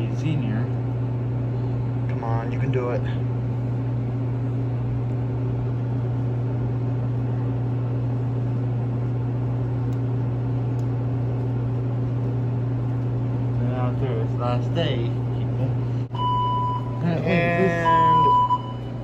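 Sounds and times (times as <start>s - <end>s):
vending machine humming: 0.0s - 19.0s.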